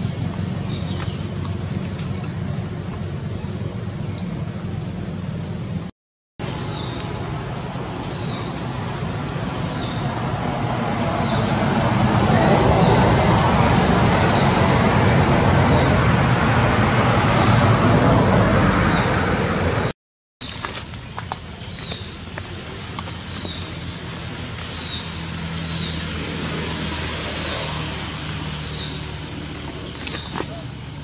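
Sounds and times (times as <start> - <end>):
loud outdoor background noise: 0.0 - 31.0.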